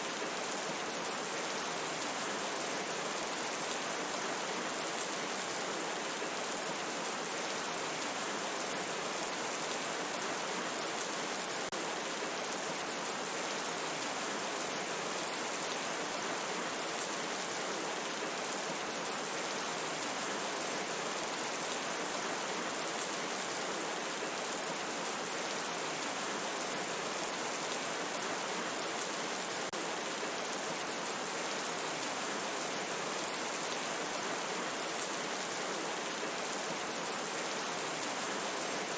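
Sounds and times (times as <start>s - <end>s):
steady rain in a forest: 0.0s - 38.9s.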